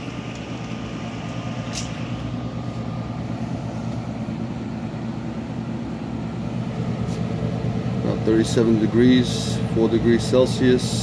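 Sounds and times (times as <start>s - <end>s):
circulation fan blowing: 0.0s - 11.0s
refrigerator compressor hum: 0.0s - 11.0s.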